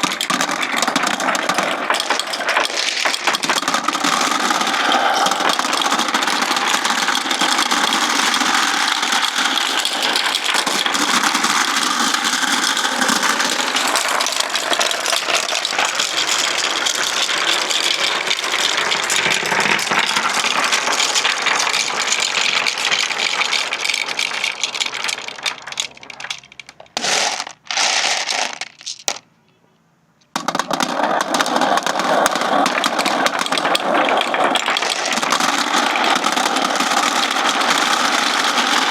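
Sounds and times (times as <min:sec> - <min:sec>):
marbles rattling along track: 0:00.0 - 0:29.2, 0:30.3 - 0:38.9.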